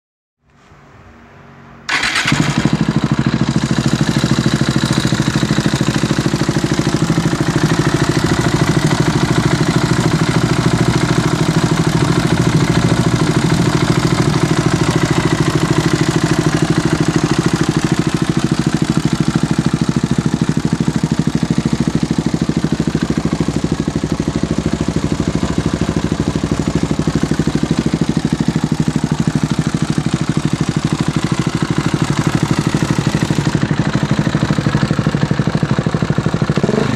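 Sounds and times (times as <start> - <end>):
motorcycle engine idling: 1.9 - 36.9.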